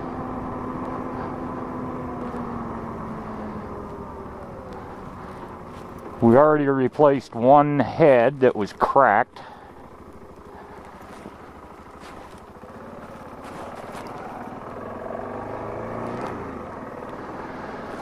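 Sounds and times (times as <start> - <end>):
car engine accelerating: 0.0 - 18.0
road noise: 0.0 - 18.0.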